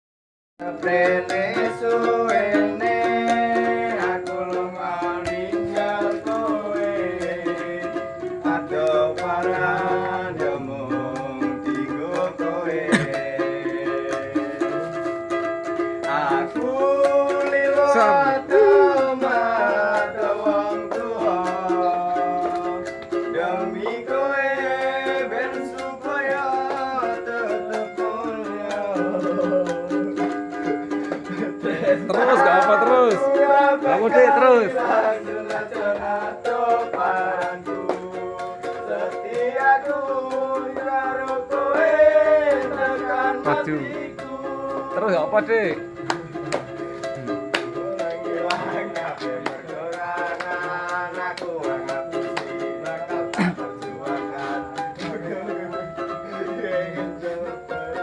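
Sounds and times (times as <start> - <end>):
men singing: 0.6 - 58.0
ukulele strumming: 0.6 - 58.0.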